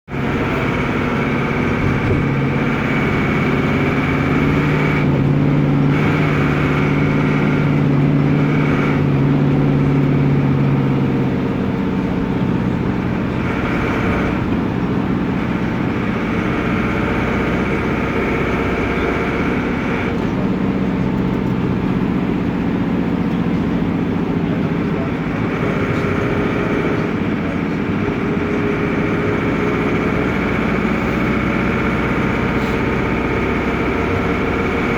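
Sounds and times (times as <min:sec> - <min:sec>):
diesel engine revving while driving: 0:00.1 - 0:34.9.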